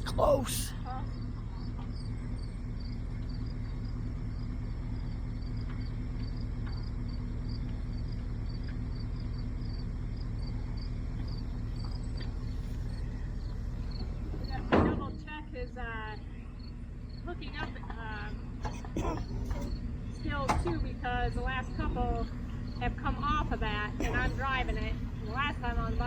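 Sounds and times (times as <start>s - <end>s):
vehicle engine idling: 0.0s - 26.0s
insect chirping: 1.1s - 14.7s, 15.6s - 26.0s.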